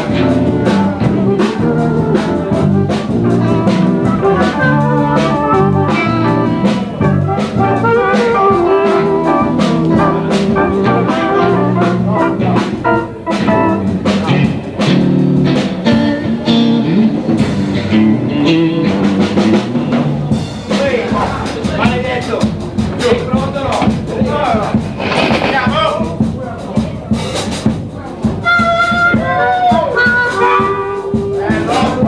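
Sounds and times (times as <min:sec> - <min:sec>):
drum kit beat: 0:00.0 - 0:32.0
guitar: 0:00.0 - 0:32.0
live blues band: 0:00.0 - 0:32.0.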